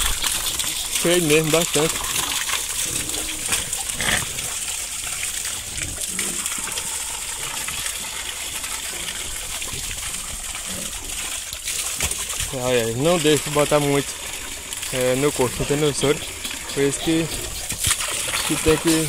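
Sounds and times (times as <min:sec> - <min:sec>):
pigs grunting: 0:00.0 - 0:11.4, 0:15.0 - 0:19.0
liquid gushing into trough: 0:00.0 - 0:19.0.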